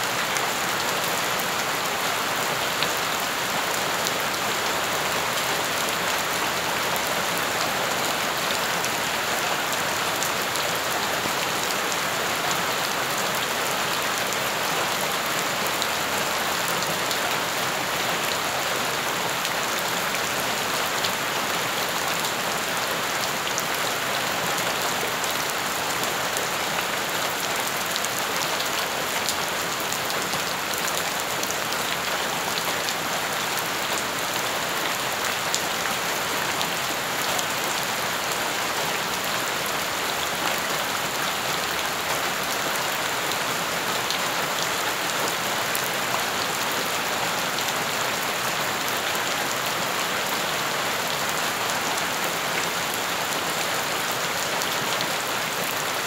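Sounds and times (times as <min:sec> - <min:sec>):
rain on wet dirt: 0:00.0 - 0:56.0.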